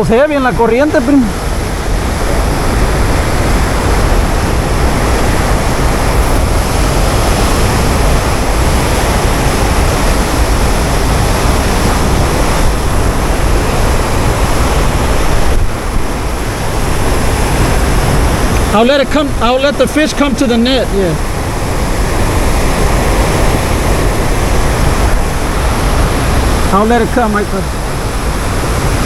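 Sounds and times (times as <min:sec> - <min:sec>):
water rushing and churning: 0:00.0 - 0:29.0
wind buffeting microphone: 0:00.0 - 0:29.0.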